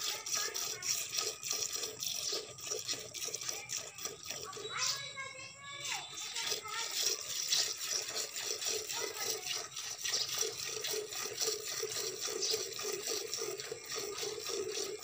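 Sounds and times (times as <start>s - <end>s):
milk squirting into metal pot: 0.0s - 15.0s.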